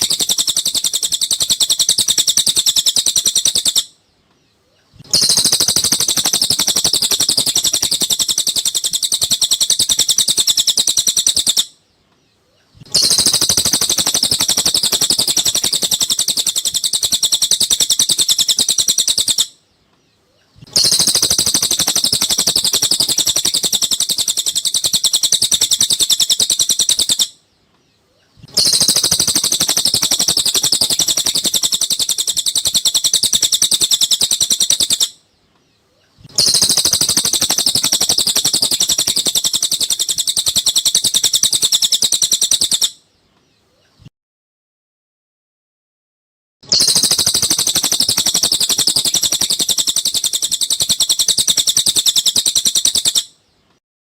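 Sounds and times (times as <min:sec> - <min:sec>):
bird chirps and trills: 0:00.0 - 0:44.1, 0:46.7 - 0:53.6.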